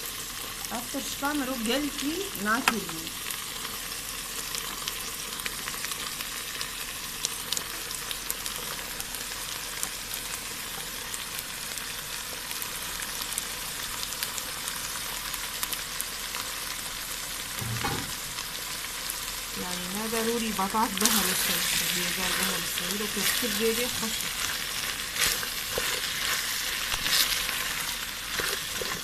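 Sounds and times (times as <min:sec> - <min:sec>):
food frying in oil: 0:00.0 - 0:29.0.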